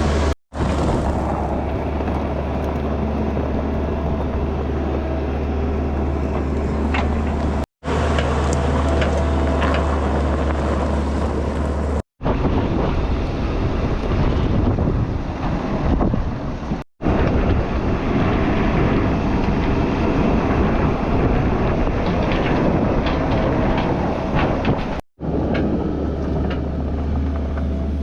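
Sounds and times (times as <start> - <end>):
low engine hum: 0.0 - 28.0
wind buffeting microphone: 0.0 - 28.0.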